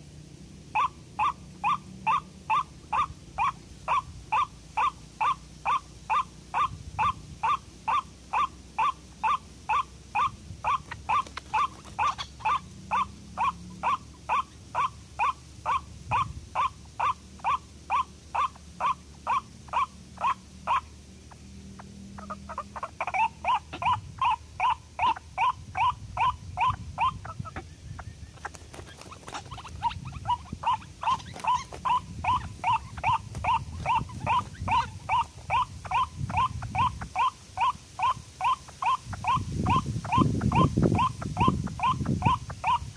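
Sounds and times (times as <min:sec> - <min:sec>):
waterhen harsh repeated call: 0:00.8 - 0:42.9.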